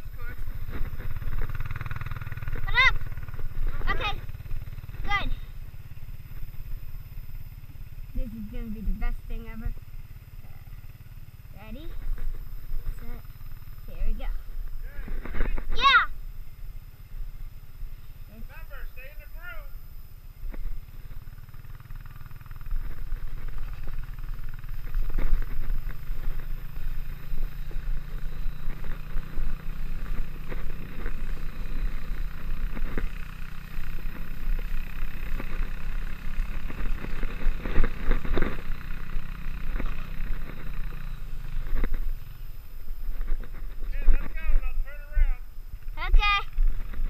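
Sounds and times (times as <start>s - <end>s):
atv engine: 0.0s - 47.0s.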